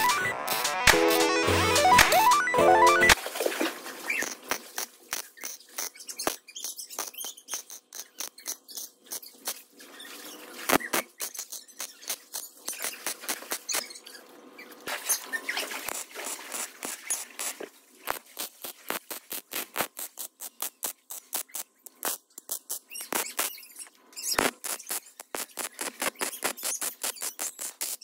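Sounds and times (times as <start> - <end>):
welding arc crackling: 0.0 - 3.2, 4.1 - 9.8, 10.7 - 14.0, 15.7 - 23.6, 24.2 - 28.0.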